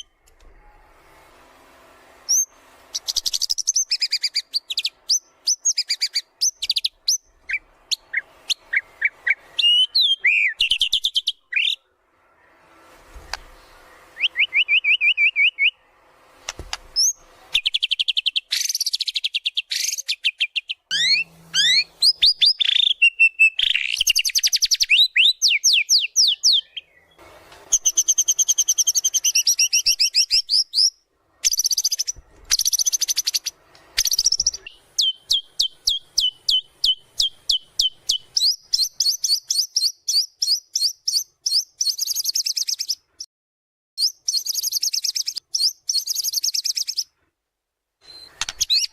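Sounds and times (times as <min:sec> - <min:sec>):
songbird singing: 0:02.3 - 0:12.6, 0:13.3 - 0:15.9, 0:17.0 - 0:43.1, 0:44.0 - 0:47.1, 0:48.0 - 0:48.9.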